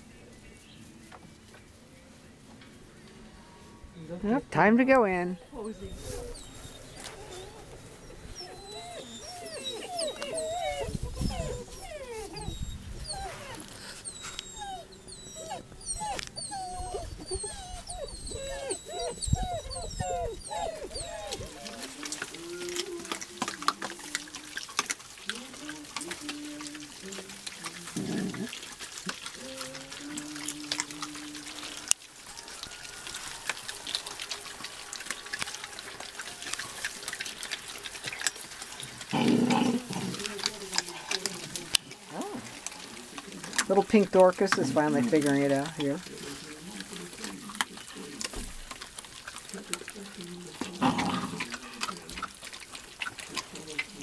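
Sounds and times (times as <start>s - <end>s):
puppies whimpering: 5.2s - 54.0s.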